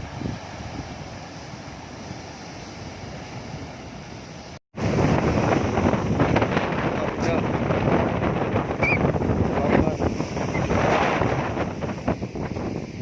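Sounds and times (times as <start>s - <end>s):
wind on microphone: 0.0s - 3.6s, 4.8s - 13.0s
ocean waves breaking: 0.0s - 13.0s.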